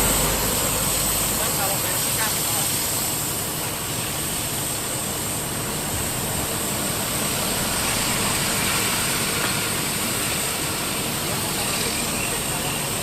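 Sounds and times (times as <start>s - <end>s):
road noise: 0.0s - 13.0s
vehicle engine: 0.0s - 13.0s.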